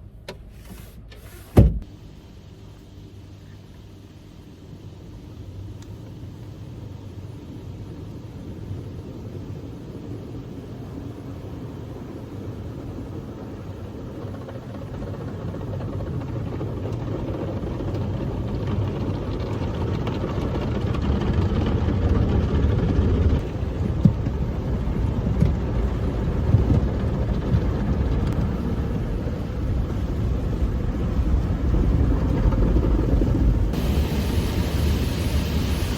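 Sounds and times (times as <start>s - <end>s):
car wash water spray and machinery: 0.0s - 35.9s.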